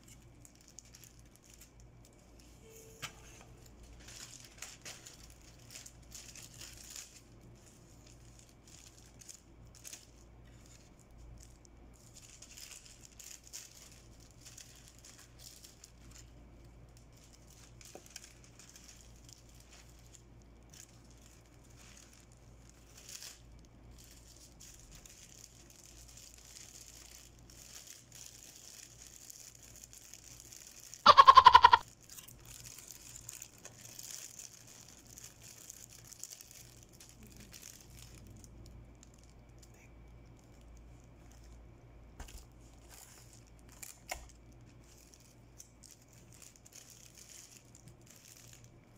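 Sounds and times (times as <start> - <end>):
foil wrappers crinkling: 0.0 - 48.9.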